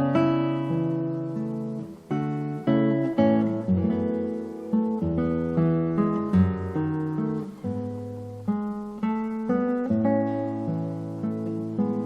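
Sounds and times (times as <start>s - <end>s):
acoustic guitar playing chords: 0.0s - 12.0s.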